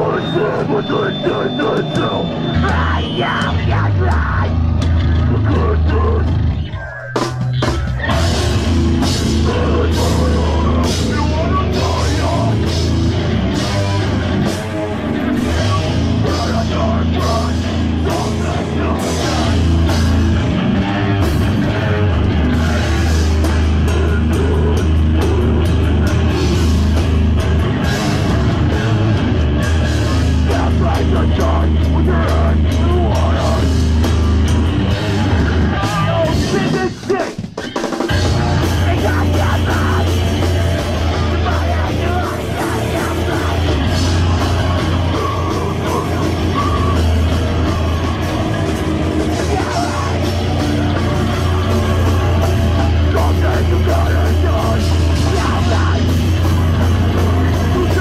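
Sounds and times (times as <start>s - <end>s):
heavy rock band playing: 0.0s - 58.0s.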